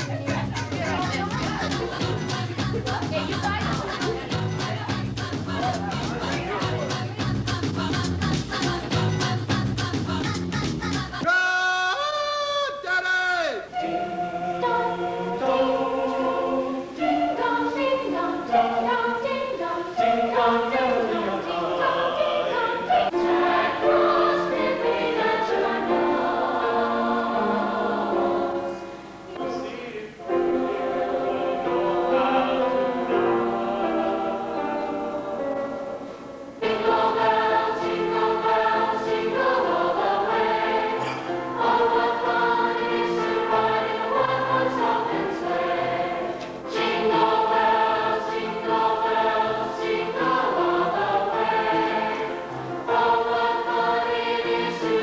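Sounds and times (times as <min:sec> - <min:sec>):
choir singing in harmony: 0:00.0 - 0:10.4, 0:13.7 - 0:55.0.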